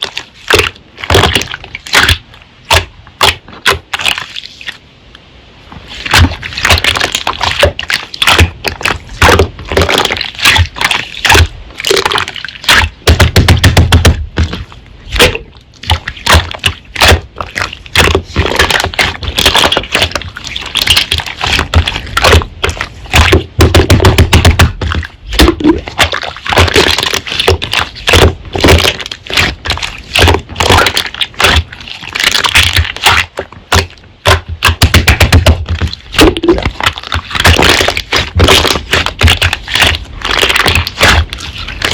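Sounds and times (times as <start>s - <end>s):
low squelching thuds: 5.7s - 41.9s
slime squished by hand: 5.9s - 41.9s
clicking and popping of air: 6.0s - 41.9s.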